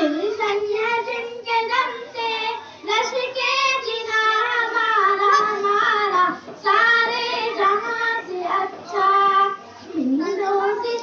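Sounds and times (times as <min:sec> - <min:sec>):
girl singing into a microphone: 0:00.0 - 0:11.0.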